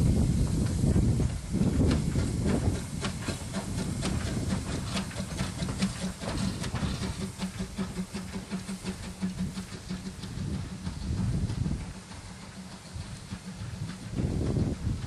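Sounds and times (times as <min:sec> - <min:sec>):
steam hiss: 0:00.0 - 0:15.0
steam locomotive beat: 0:00.0 - 0:15.0.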